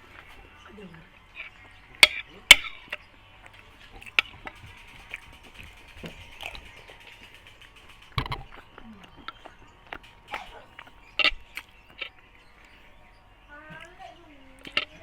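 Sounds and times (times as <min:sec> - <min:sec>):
eating clicks and clacks: 0:00.0 - 0:15.0.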